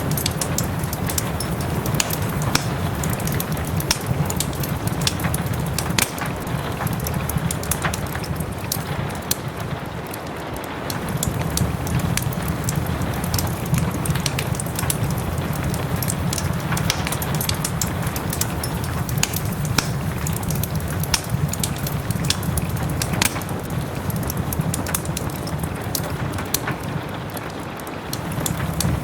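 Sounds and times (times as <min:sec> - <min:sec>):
soft rain hiss: 0:00.0 - 0:29.0
wood fire crackling and popping: 0:00.0 - 0:29.0.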